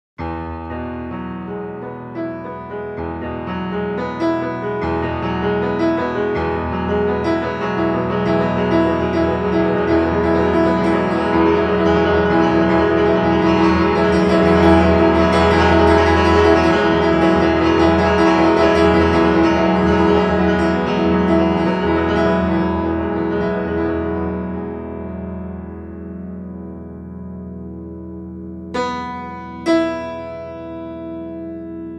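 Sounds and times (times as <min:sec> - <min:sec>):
solo piano playing: 0:00.2 - 0:31.9.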